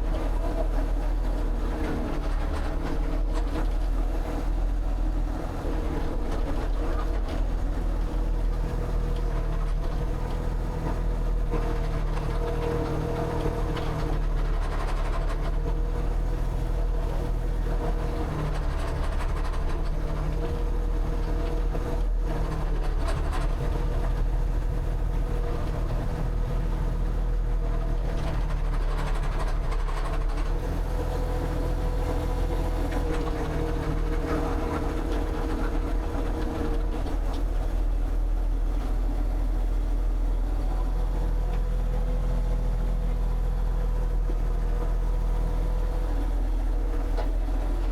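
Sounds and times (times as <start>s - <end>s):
engine humming: 0.0s - 47.9s.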